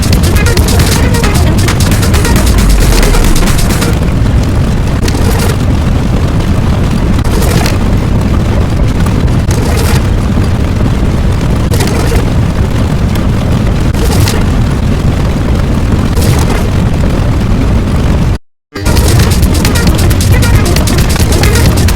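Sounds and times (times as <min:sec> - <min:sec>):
deep explosion rumble: 0:00.0 - 0:21.9
sharp explosion blasts: 0:00.0 - 0:21.9.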